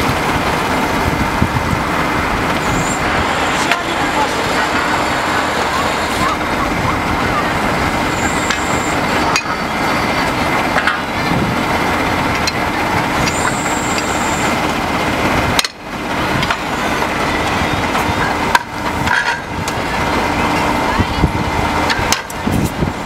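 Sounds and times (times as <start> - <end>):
drilling rig running loudly: 0.0 - 23.0.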